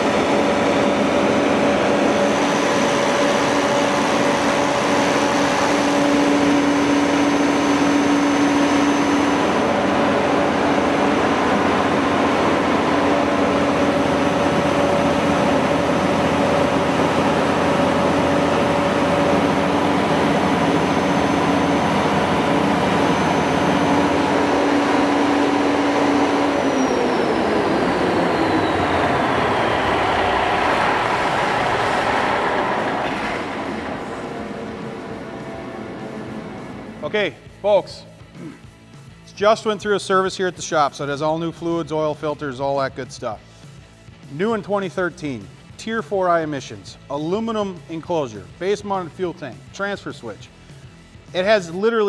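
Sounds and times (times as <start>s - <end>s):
diesel generator engine whining: 0.0s - 42.7s.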